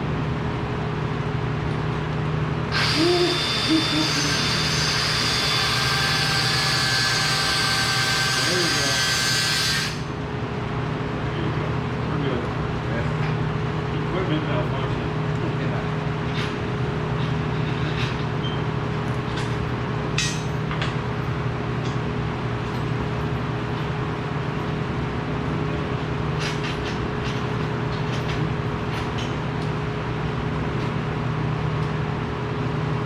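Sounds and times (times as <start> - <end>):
shop machinery humming: 0.0 - 33.0.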